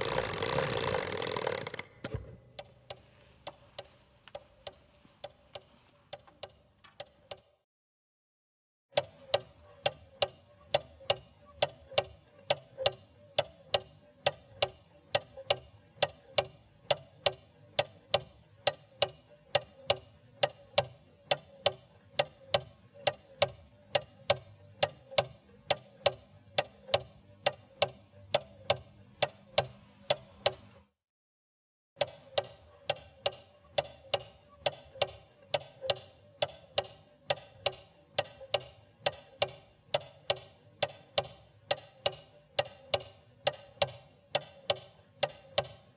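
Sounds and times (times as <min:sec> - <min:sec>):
clock ticking: 0:00.0 - 0:07.6, 0:08.9 - 0:30.8, 0:32.0 - 0:45.9.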